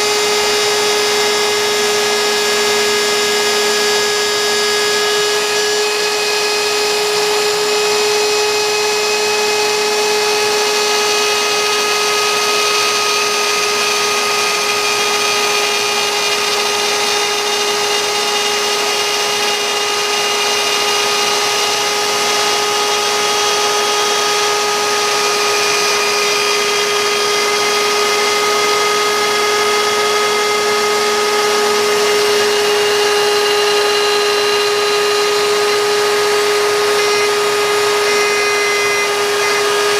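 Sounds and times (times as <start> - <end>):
hiss of bit cutting wood: 0.0 - 39.9
router spindle whining: 0.0 - 39.9.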